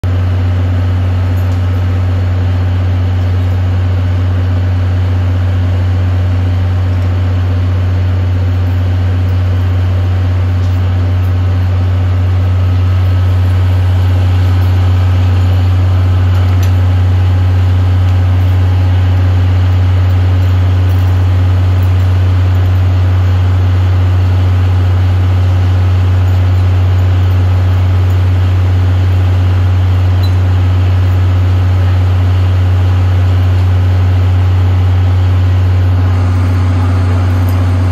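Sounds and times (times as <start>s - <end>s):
locomotive engine idling: 0.0s - 37.9s.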